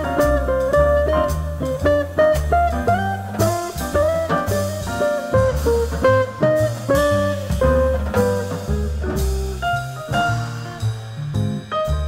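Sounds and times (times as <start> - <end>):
drums: 0.0 - 12.0
jazz guitar melody: 0.0 - 12.0
upright bass: 0.0 - 12.0.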